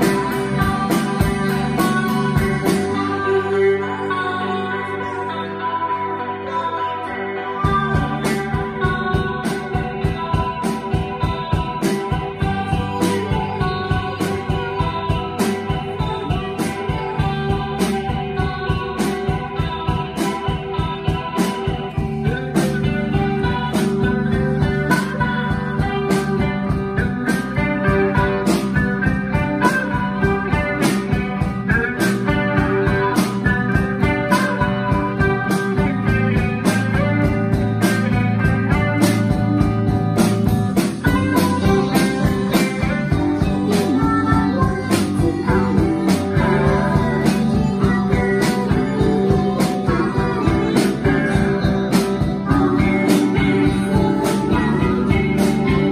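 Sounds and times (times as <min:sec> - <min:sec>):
steady drum beat: 0:00.0 - 0:03.2, 0:07.8 - 0:55.9
bass: 0:00.0 - 0:55.9
electric guitars: 0:00.0 - 0:55.9.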